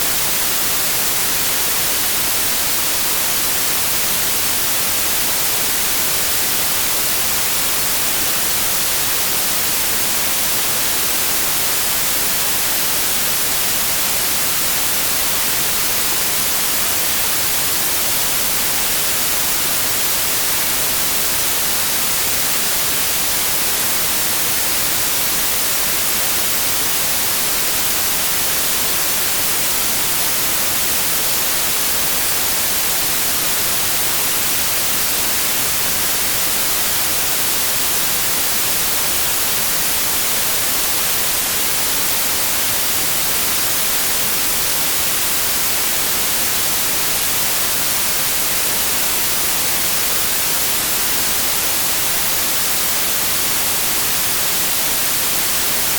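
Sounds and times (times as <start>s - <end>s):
white noise hiss: 0.0s - 55.9s.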